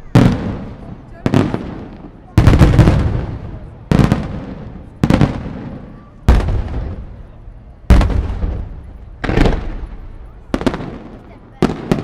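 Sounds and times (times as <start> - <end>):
firework bangs with echo: 0.0 - 12.0.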